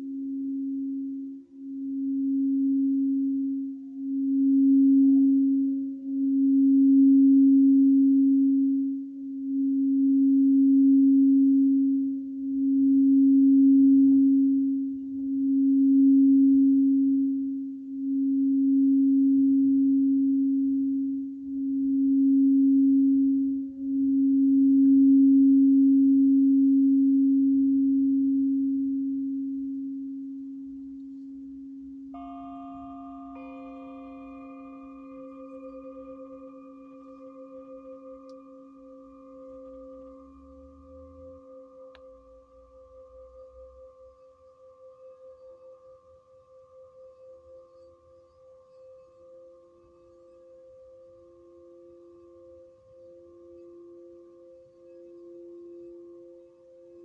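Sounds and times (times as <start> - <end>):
singing bowl sustained tone: 0.0 - 57.0.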